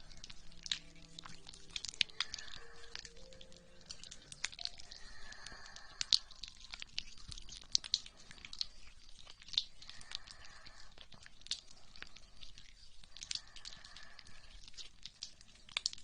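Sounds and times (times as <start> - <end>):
soft breathing: 0.0 - 15.7
wet squishy crackles: 0.0 - 16.0.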